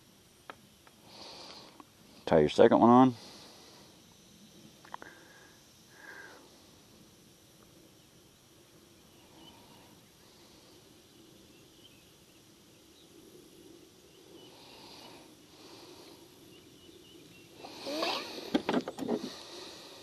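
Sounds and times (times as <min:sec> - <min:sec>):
faint outdoor background: 0:00.0 - 0:20.0.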